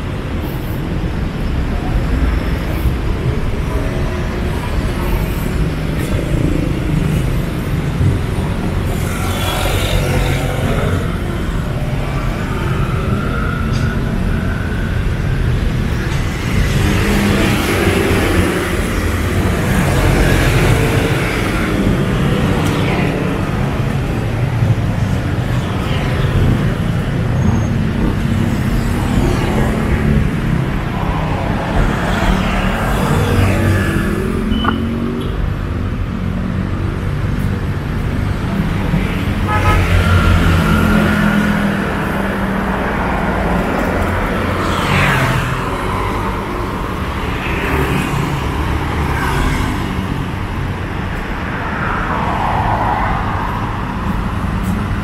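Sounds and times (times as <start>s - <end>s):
vehicles passing by: 0.0s - 55.0s.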